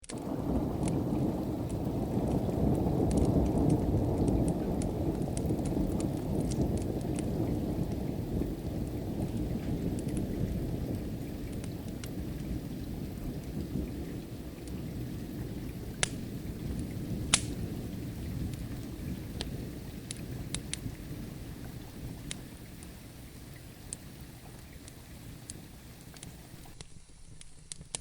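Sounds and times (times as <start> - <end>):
steady rain: 0.0 - 28.0
wood fire crackling: 0.0 - 28.0
distant thunder rumble: 0.1 - 26.8.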